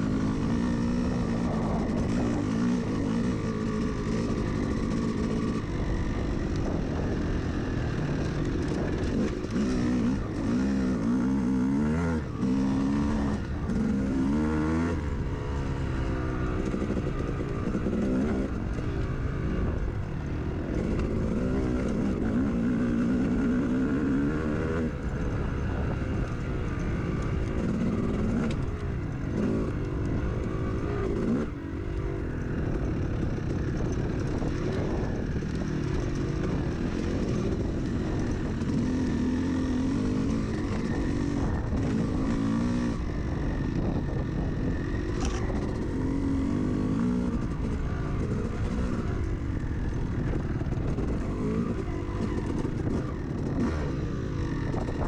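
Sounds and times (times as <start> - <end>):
dirt bike engine revving: 0.0 - 19.7, 20.6 - 55.0.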